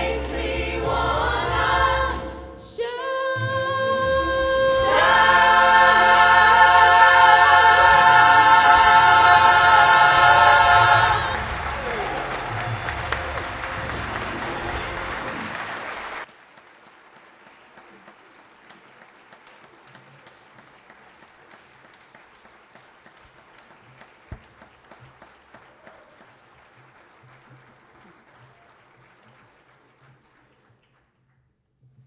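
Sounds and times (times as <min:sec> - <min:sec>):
congregation applauding: 0:04.0 - 0:31.4.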